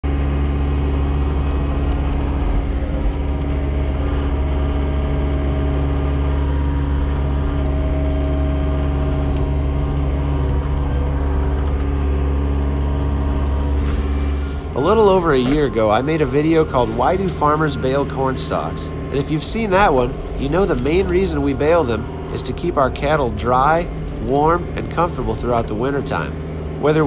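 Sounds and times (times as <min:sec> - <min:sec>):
loader engine running: 0:00.0 - 0:27.0.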